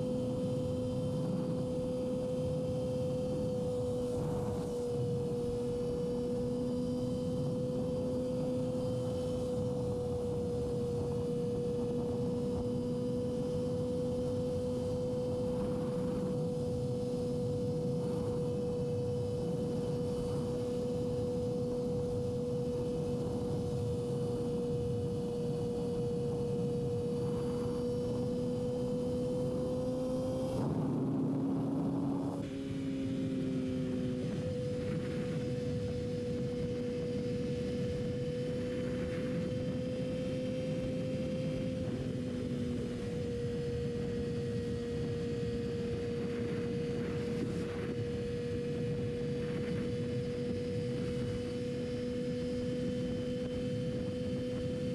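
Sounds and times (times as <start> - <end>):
motorcycle engine at high revs: 0.0 - 54.9.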